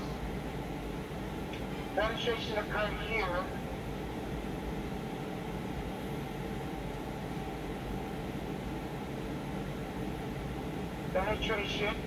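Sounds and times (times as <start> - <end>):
steady background hum and hiss: 0.0 - 12.0.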